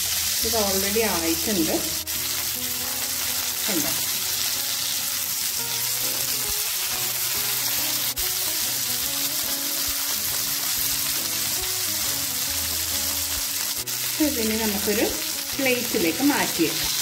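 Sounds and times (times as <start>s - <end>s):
fish frying in a pan: 0.0s - 17.0s.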